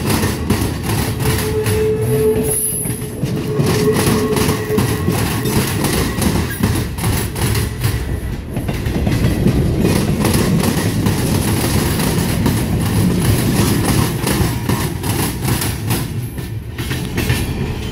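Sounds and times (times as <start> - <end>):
rumble of wheels on rail: 0.0 - 17.9
wheels clacking over rail joints: 0.0 - 17.9.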